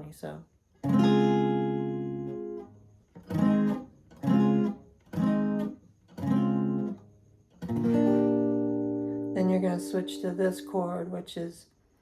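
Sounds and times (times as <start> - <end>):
acoustic guitar strumming chords: 0.8 - 11.5.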